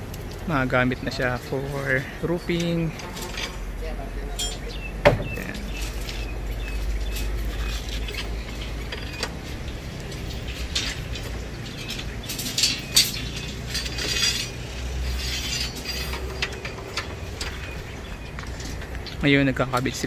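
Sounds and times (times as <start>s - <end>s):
steel stirrups clinking on rebar: 1.2s - 3.7s, 4.3s - 20.0s.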